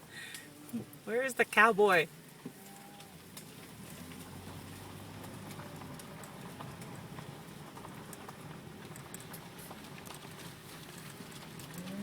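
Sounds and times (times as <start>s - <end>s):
cattle hooves clopping: 0.0s - 12.0s.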